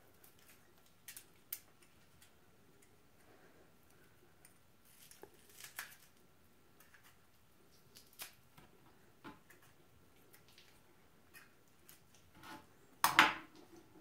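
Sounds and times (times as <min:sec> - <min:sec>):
soft rustles of strawberries: 0:00.0 - 0:12.3.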